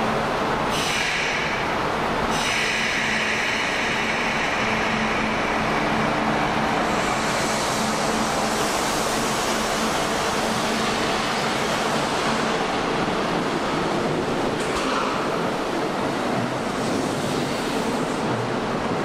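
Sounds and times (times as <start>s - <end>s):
electric train rumbling: 0.0s - 19.0s.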